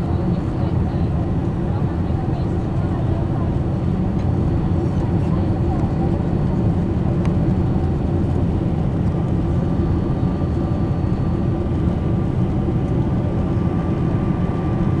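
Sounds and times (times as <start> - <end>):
jet engine cabin rumble: 0.0 - 15.0.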